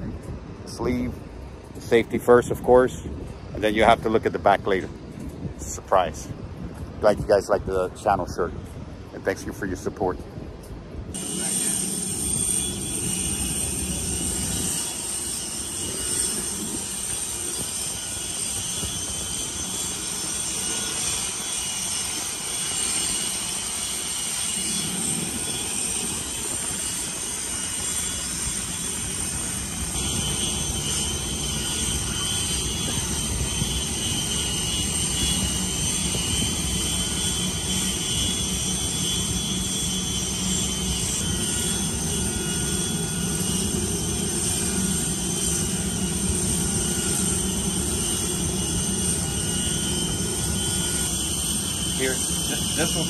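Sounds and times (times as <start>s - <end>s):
jet turbine whining rumble: 0.0s - 53.0s.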